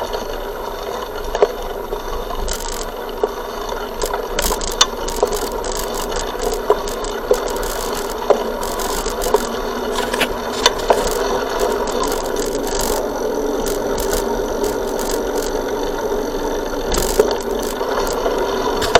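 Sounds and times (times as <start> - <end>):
bicycle rattling rumble: 1.7 - 18.9.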